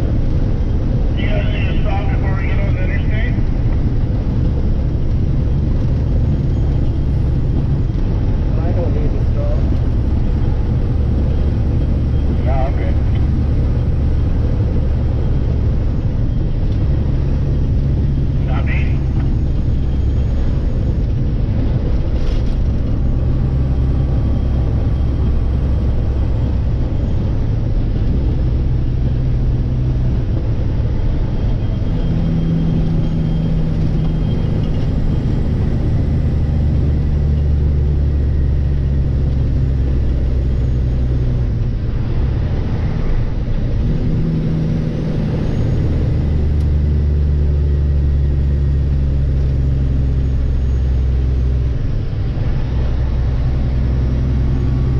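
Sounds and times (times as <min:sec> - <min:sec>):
truck engine drone: 0:00.0 - 0:54.9.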